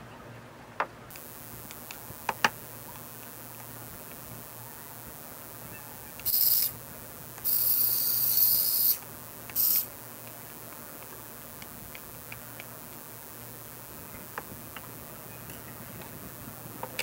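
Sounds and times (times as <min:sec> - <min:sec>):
faint clicks: 0:01.1 - 0:07.9, 0:08.9 - 0:17.0
tiny electric motors whirring: 0:01.1 - 0:17.0.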